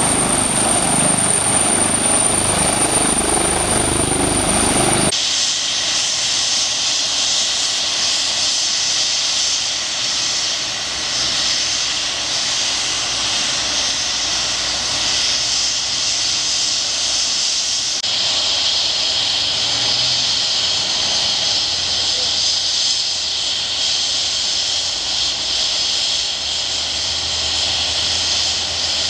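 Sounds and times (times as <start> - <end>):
helicopter turbine engines hissing: 0.0 - 29.0.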